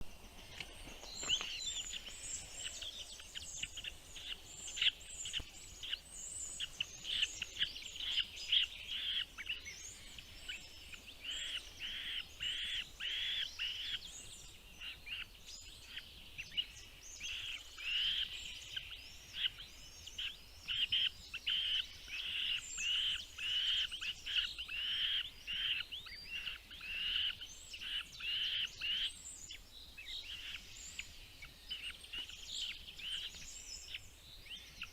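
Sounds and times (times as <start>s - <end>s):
birds chirping: 0.0s - 34.9s
faint high bird chirps: 0.0s - 34.9s.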